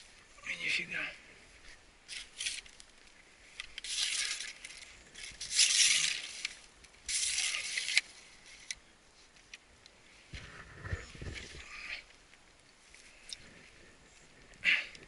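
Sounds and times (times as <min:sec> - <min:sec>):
grass and clothing rustling: 0:00.0 - 0:15.0.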